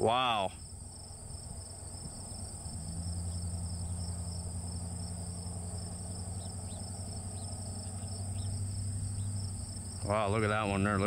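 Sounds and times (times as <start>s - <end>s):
faint bird chirps: 0.0s - 10.8s
crickets trilling: 0.0s - 11.0s
low steady hum: 0.0s - 11.0s.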